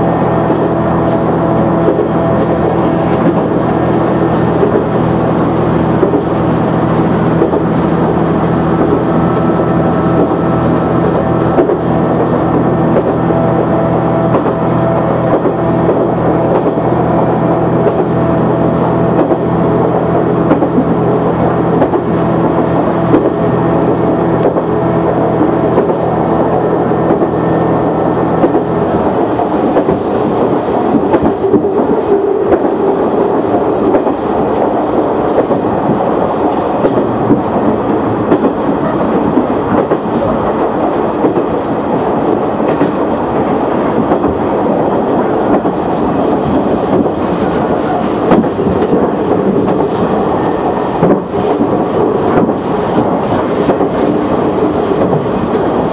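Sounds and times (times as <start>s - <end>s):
railcar engine hum: 0.0s - 55.9s
wheels rumbling on rails: 0.0s - 55.9s
rail-joint clicks: 1.1s - 13.3s, 14.2s - 16.9s, 17.8s - 55.9s.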